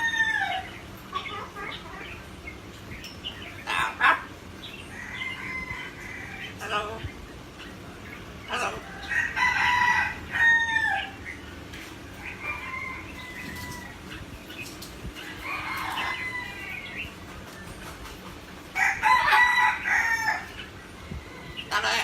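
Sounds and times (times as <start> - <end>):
parrot squawking and calling: 0.0 - 17.1, 21.4 - 22.0.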